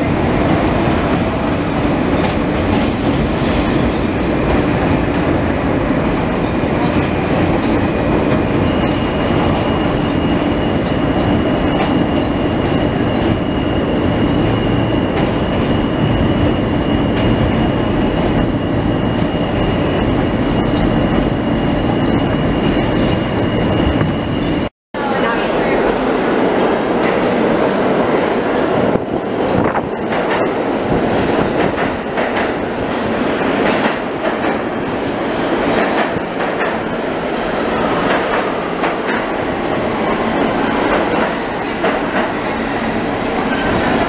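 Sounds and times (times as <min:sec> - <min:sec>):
subway train wheels rumbling: 0:00.0 - 0:44.0.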